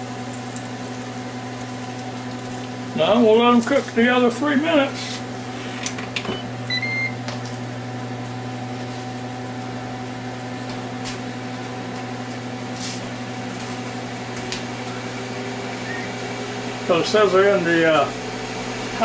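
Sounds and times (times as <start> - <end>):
fan hum with low drone: 0.0 - 19.0.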